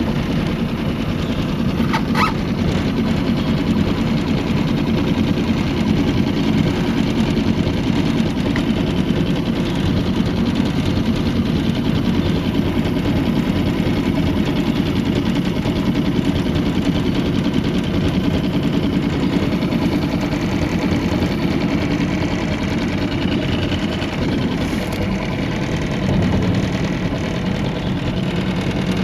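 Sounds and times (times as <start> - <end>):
outboard motor chugging: 0.0 - 29.0.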